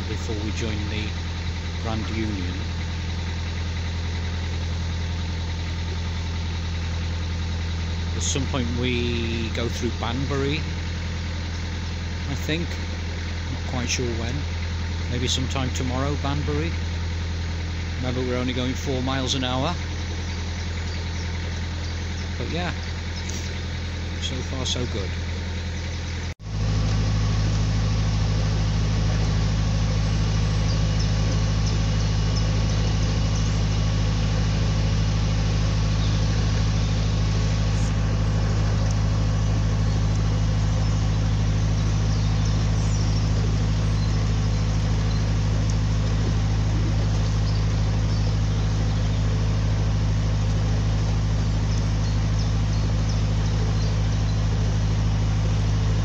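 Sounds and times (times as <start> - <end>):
boat diesel engine humming: 0.0 - 56.0.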